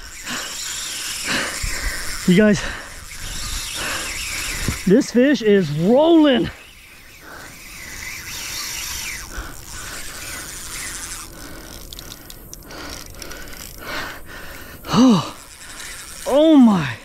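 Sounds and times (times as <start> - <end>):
fishing reel ratcheting and whirring: 0.0 - 17.0.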